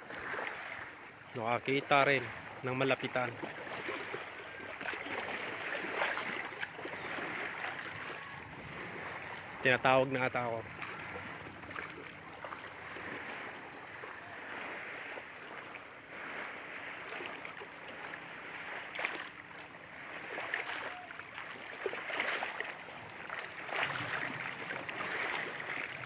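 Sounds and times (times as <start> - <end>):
lake waves lapping shore: 0.0 - 26.0.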